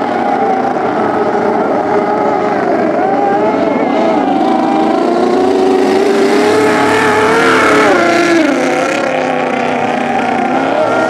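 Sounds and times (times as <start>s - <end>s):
racing outboard engines passing: 0.0s - 11.0s.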